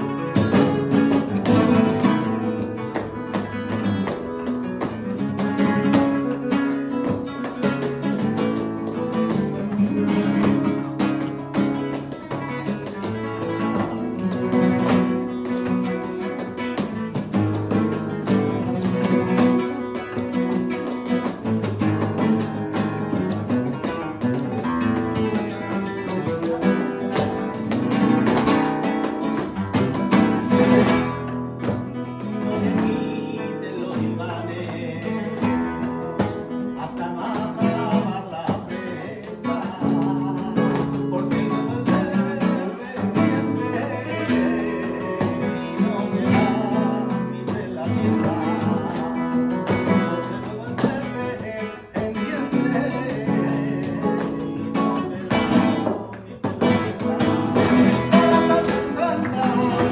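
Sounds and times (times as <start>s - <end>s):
flamenco acoustic guitar: 0.0s - 59.9s.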